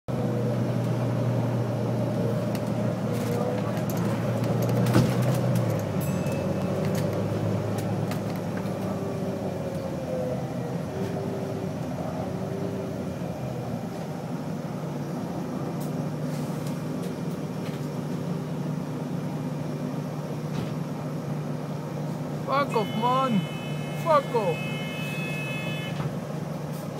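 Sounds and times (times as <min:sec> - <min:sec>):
bus engine drone: 0:00.1 - 0:26.9.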